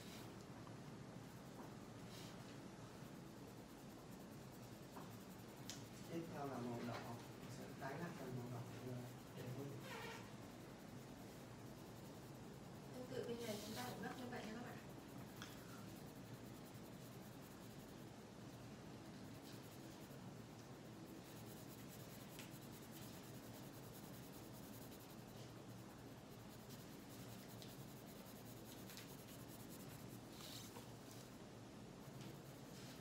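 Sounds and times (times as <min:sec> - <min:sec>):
colored pencil scratching on paper: 0:01.4 - 0:31.4, 0:32.0 - 0:33.0.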